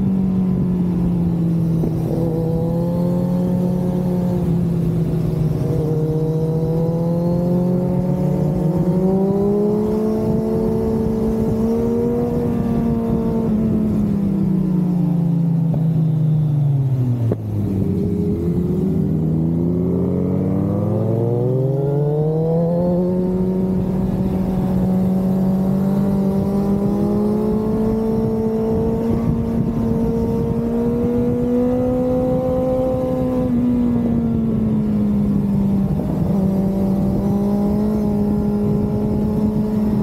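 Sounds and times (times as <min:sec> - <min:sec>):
motorcycle engine revving: 0:00.0 - 0:15.9, 0:17.2 - 0:40.0.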